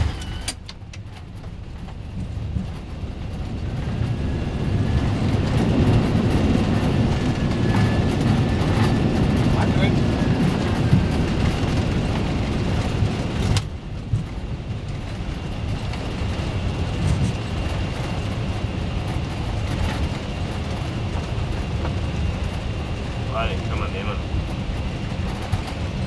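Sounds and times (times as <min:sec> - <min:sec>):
aircraft cockpit rumble: 0:00.0 - 0:26.0.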